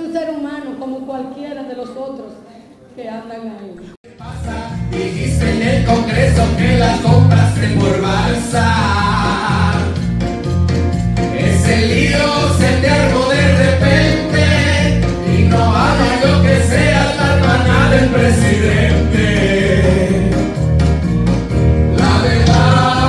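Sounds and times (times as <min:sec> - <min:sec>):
song with singing voices: 0:04.0 - 0:23.0
bass line and beat: 0:04.2 - 0:23.0.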